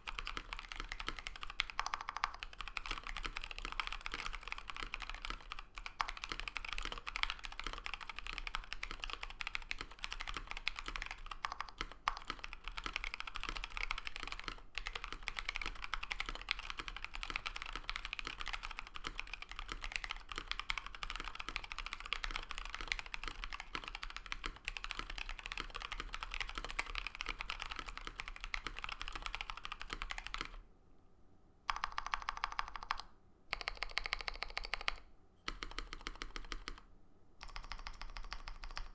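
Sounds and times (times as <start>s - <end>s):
mechanical keyboard typing: 0.0s - 30.6s, 31.7s - 38.9s.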